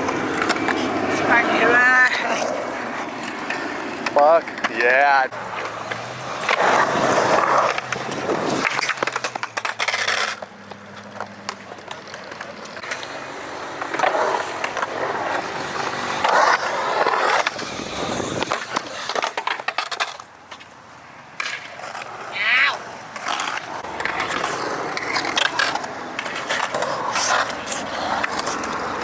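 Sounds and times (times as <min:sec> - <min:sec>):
skateboard carving and scraping: 0:00.0 - 0:29.0
skateboard wheels rolling on concrete: 0:00.0 - 0:29.0.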